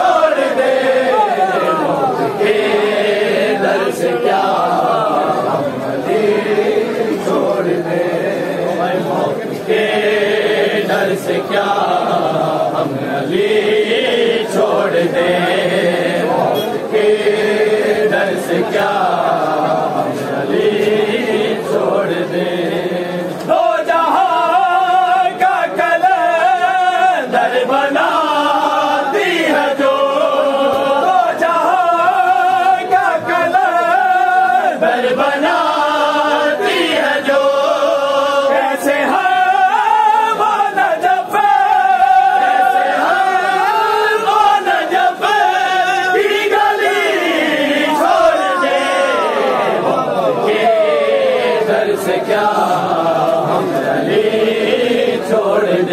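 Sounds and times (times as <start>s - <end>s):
men chanting in unison: 0.0s - 55.9s.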